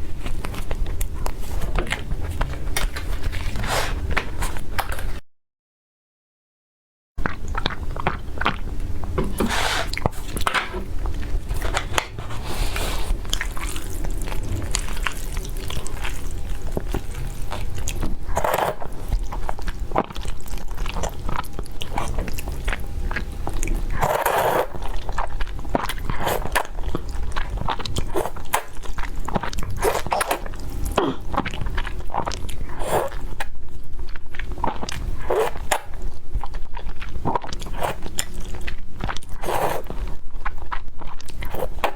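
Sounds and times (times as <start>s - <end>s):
person chewing crunchy food: 7.2s - 41.9s.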